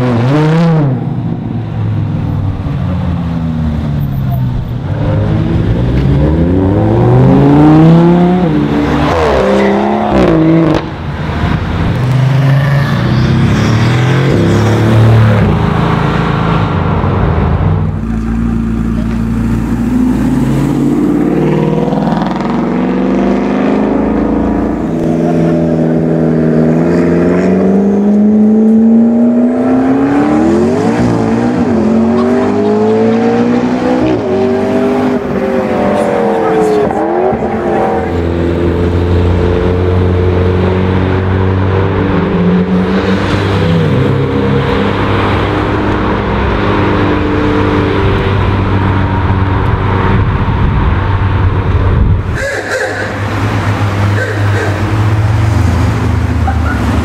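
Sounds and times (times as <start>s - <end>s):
sports car engines accelerating: 0.0s - 57.0s.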